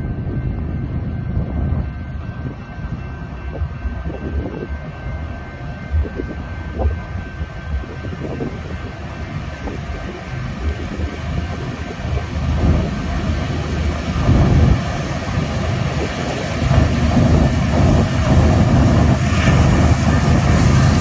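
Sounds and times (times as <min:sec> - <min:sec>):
freight train rumbling: 0:00.0 - 0:21.0.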